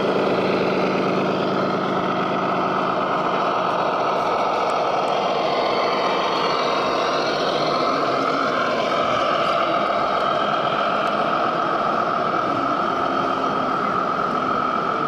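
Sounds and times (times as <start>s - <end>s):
model trucks engine drone: 0.0s - 15.0s.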